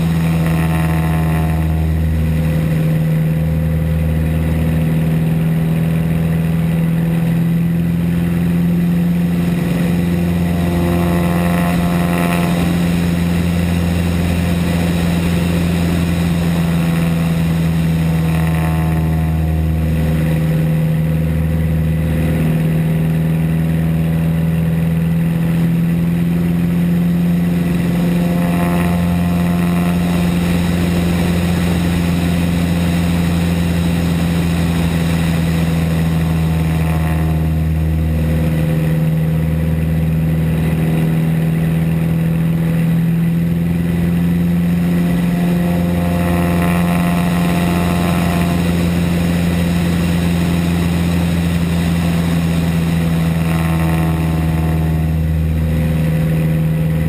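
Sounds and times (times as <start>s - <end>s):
airplane piston engine and propeller: 0.0s - 57.0s.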